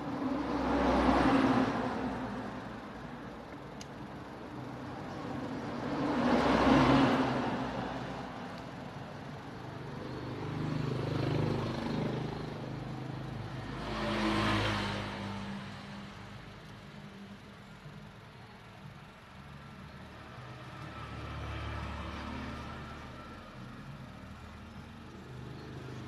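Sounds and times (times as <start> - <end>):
vehicles passing by: 0.0 - 26.0.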